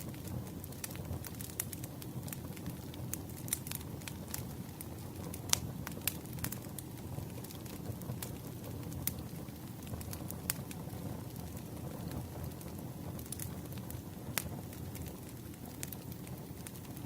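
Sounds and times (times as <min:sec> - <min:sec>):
campfire crackling and popping: 0:00.0 - 0:17.0
campfire low rumble: 0:00.0 - 0:17.0.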